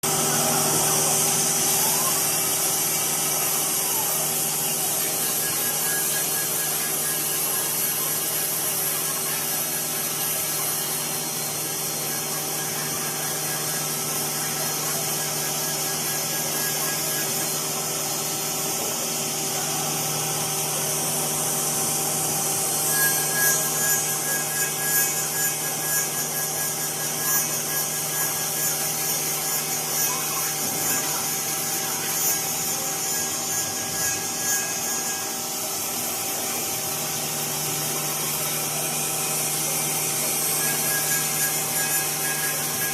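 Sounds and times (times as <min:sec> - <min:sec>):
wood router cutting wood: 0:00.0 - 0:42.9.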